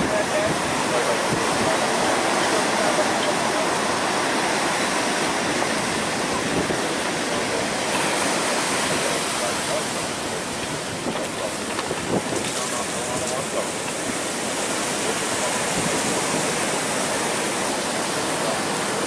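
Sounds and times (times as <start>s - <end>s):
heavy surf: 0.0s - 19.0s
strong wind rushing: 0.0s - 19.0s.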